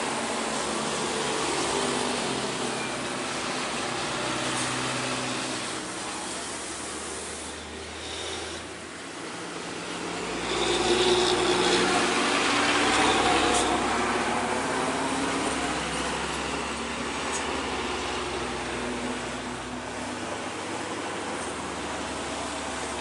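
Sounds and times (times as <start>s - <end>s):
road traffic passing: 0.0s - 23.0s
truck engine rumble: 0.0s - 23.0s.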